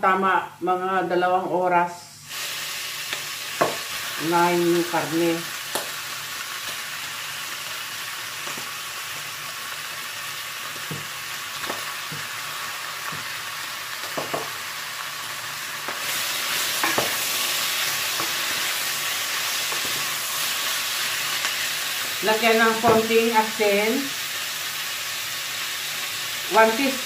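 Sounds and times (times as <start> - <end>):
food sizzling in a pot: 2.1 - 27.0.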